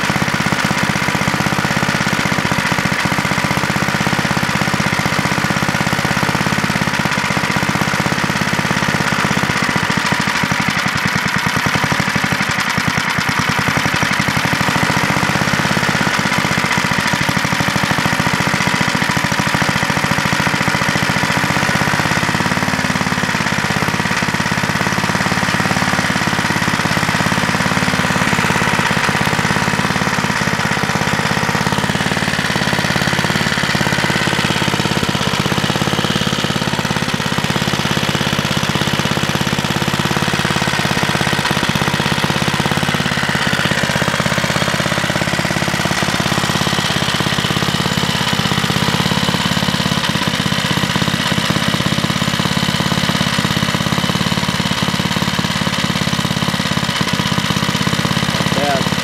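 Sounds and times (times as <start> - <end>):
small engine idling rattly: 0.0 - 59.0.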